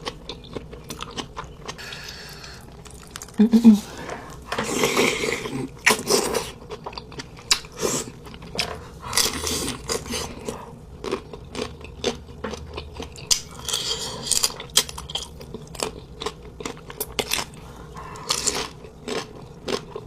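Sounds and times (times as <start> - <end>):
crunching and chewing food: 0.0 - 20.0.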